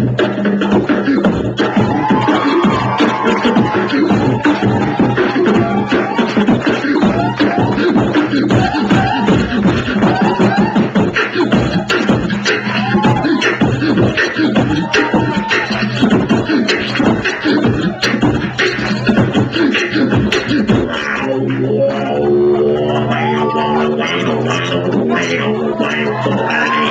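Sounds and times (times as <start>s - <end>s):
beatboxing into a microphone: 0.0s - 26.9s.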